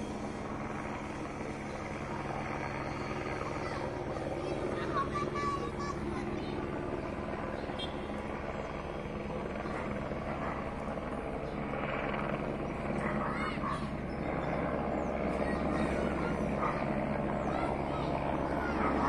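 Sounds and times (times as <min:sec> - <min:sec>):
distant helicopter rotor drone: 0:00.0 - 0:19.0.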